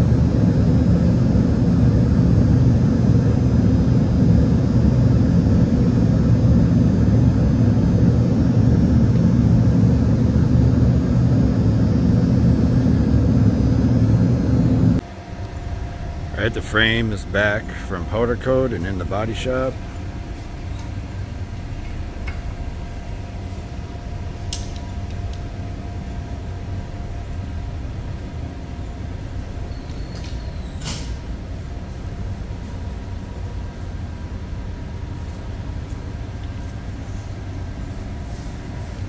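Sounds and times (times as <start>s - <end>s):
faint steady hums: 0.0s - 39.0s
low workshop rumble: 0.0s - 39.0s.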